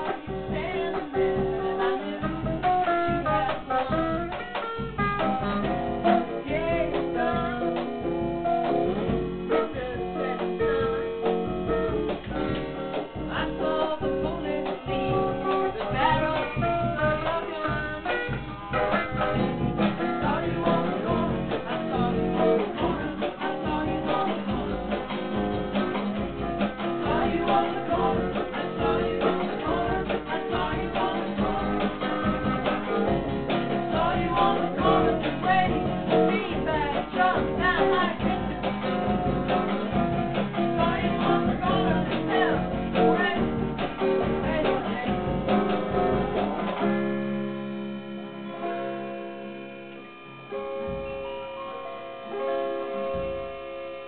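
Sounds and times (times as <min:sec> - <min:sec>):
acoustic guitar strumming: 0:00.0 - 0:54.0
second guitar playing: 0:00.0 - 0:54.0.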